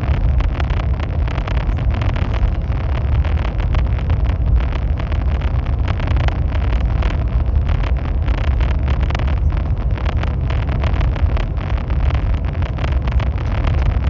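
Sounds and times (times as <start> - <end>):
train low rumble: 0.0 - 14.0
wind noise: 0.0 - 14.0.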